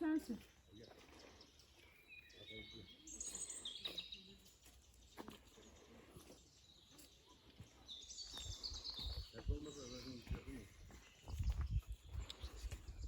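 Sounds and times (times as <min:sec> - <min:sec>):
woodland ambience: 0:00.0 - 0:13.0
bird chirps: 0:00.3 - 0:13.0.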